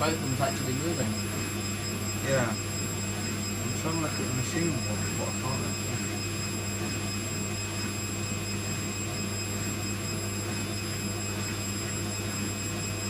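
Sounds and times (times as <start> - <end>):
washing machine drum spinning: 0.0 - 13.0.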